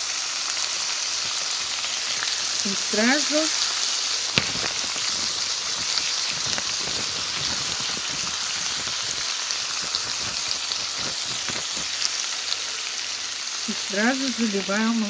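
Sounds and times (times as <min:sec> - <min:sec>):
chicken and mushrooms sizzling: 0:00.0 - 0:15.0
oil popping and crackling: 0:00.0 - 0:15.0.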